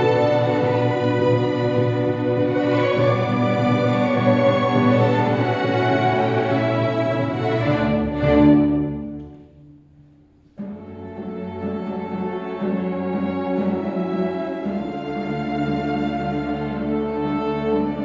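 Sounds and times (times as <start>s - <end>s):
orchestra playing: 0.0s - 9.8s, 10.4s - 18.0s.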